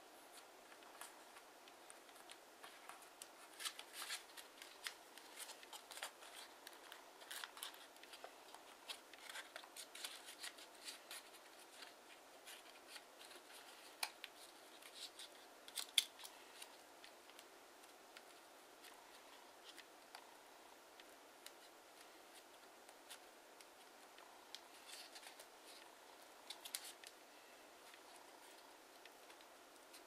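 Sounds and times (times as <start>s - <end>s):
paper crinkling and rustling: 0.3s - 20.2s, 21.0s - 30.0s.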